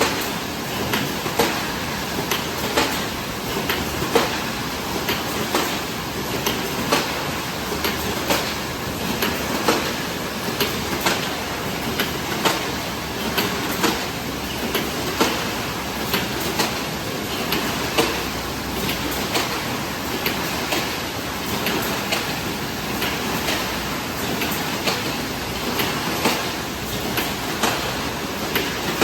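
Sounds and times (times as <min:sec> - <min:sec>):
steady mechanical noise: 0:00.0 - 0:29.0.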